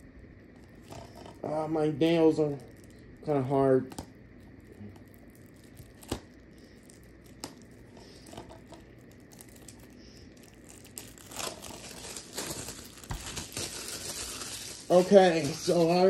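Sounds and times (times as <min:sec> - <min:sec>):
plastic shrink-wrap crinkling: 0:00.5 - 0:16.0.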